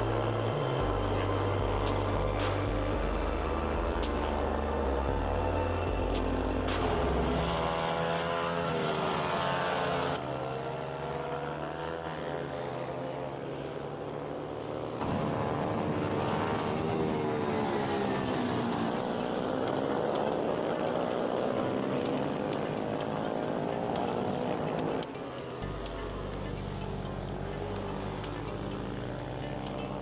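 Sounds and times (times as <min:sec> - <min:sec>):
racing motorcycle engines revving: 0:00.0 - 0:30.0.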